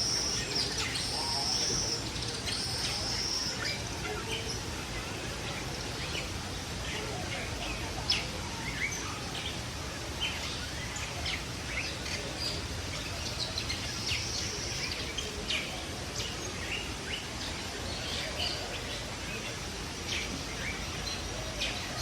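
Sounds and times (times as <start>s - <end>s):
caged birds chirping: 0.0s - 22.0s
steady background noise: 0.0s - 22.0s.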